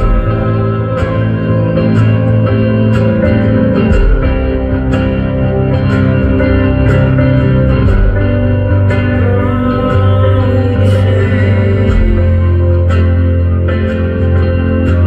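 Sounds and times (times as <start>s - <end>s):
guitar playing: 0.0s - 15.0s
live band playing: 0.0s - 15.0s.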